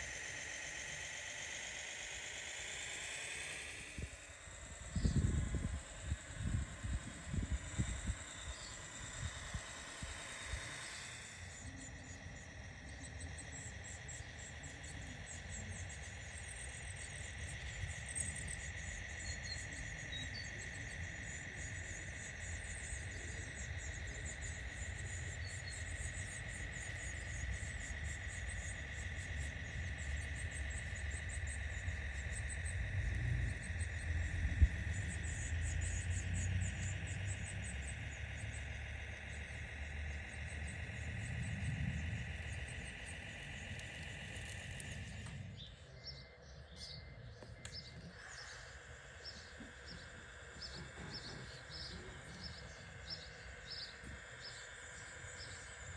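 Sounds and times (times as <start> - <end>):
electric motor whining: 0.0 - 55.9
insects chirping: 0.0 - 55.9
low drivetrain rumble: 0.0 - 55.9.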